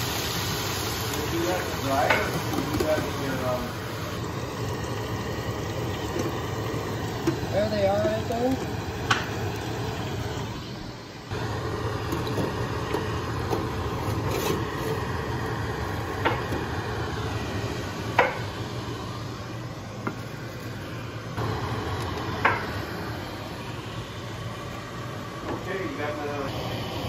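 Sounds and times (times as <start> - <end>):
steady hum and hiss: 0.0 - 27.0.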